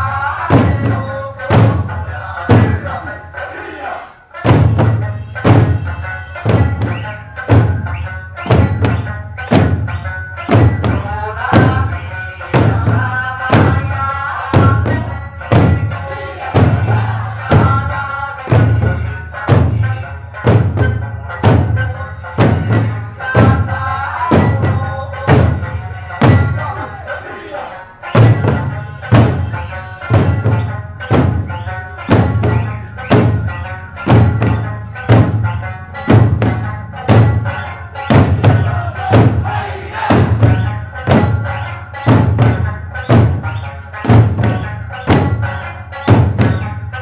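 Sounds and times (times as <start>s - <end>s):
drums beating in unison: 0.0s - 47.0s
folk music: 0.0s - 47.0s.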